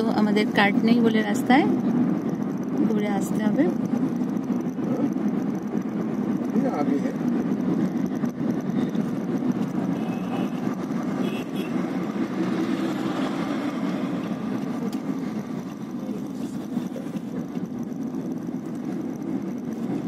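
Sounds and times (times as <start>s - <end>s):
vehicle road and engine noise: 0.0s - 20.0s.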